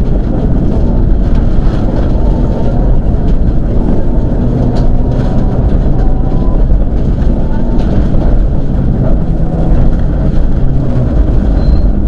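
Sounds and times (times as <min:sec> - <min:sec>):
car engine revving loud: 0:00.5 - 0:12.0.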